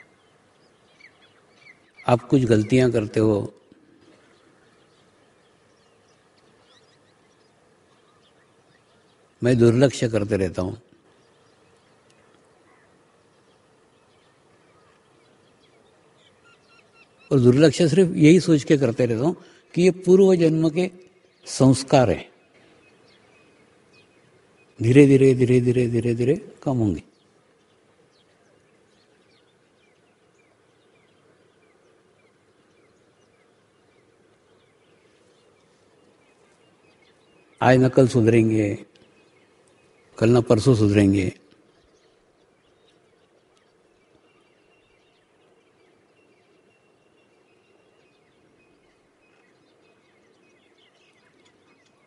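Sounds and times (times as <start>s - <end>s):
faint background hiss: 0.0s - 52.0s
faint bird chirps: 0.0s - 52.0s.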